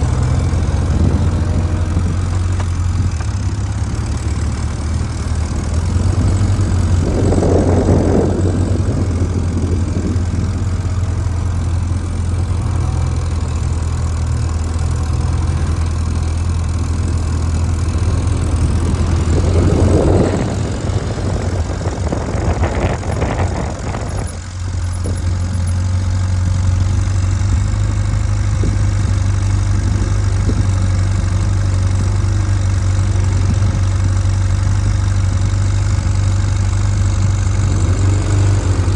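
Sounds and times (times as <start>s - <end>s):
motorcycle engine at low speed: 0.0s - 38.9s.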